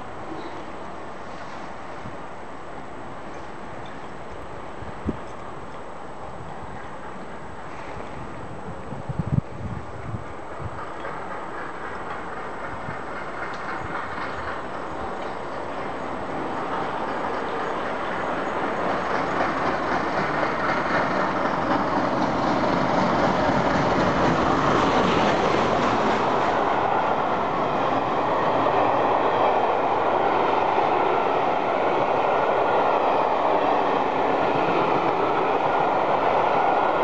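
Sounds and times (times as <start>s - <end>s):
steam locomotive passing at speed: 0.0s - 37.0s
train wheels rumbling on rail: 0.0s - 37.0s.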